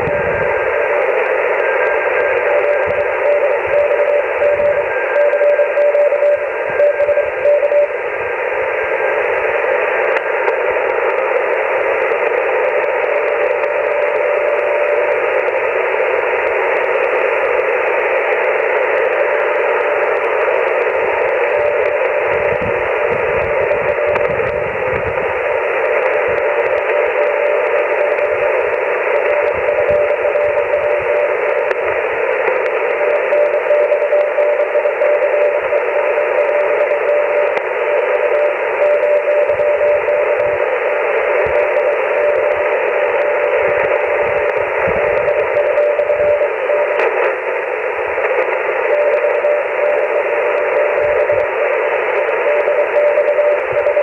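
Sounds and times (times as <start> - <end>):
faint morse code tone: 0.0 - 54.0
shortwave receiver hiss: 0.0 - 54.0.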